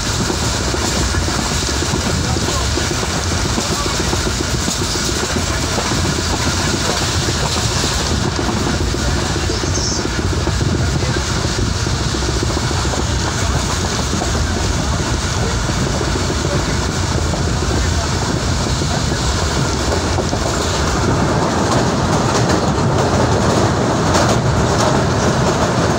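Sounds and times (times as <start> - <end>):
train wheels rumbling on track: 0.0 - 25.9.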